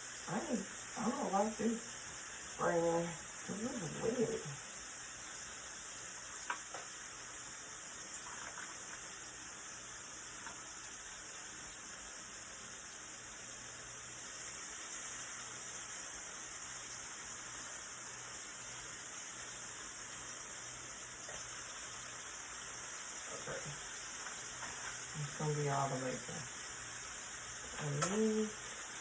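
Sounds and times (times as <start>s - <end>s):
bacon sizzling in a pan: 0.0s - 29.0s.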